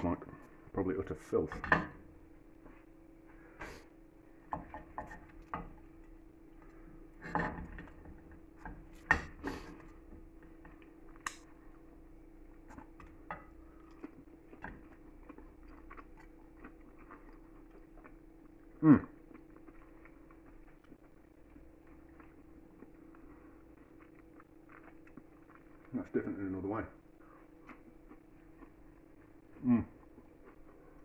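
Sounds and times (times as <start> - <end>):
faint steady hum: 0.0 - 31.0
person chewing food: 1.9 - 26.2, 27.0 - 31.0.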